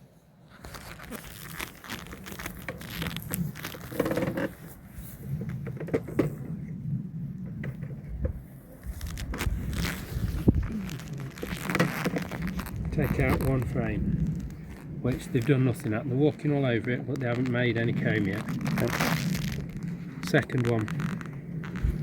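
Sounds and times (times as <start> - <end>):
crinkling and scraping handling noises: 0.5 - 6.7, 7.4 - 22.0.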